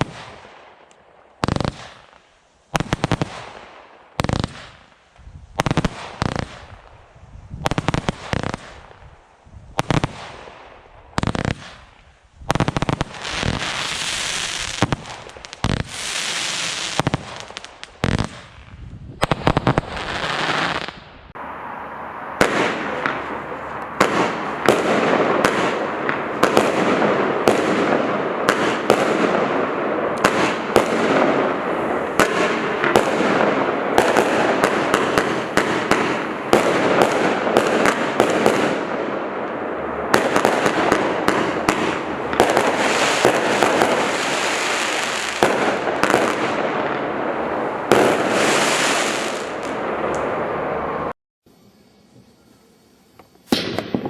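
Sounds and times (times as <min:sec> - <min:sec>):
firework bangs: 0:00.0 - 0:00.8, 0:01.4 - 0:51.1, 0:53.2 - 0:54.0
firework crackle: 0:00.0 - 0:50.6, 0:51.5 - 0:54.0.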